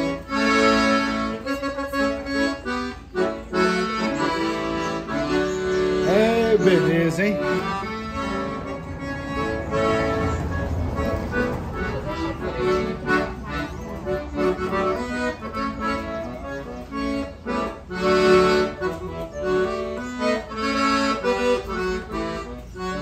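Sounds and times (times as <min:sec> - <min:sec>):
gospel melody on an instrument: 0:00.0 - 0:23.0.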